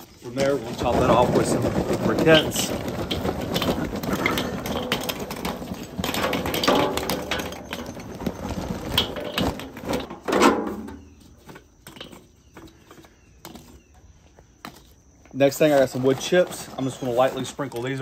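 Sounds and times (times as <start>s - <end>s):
charcoal briquettes clattering: 0.0s - 18.0s
light clicks of briquettes: 0.0s - 18.0s.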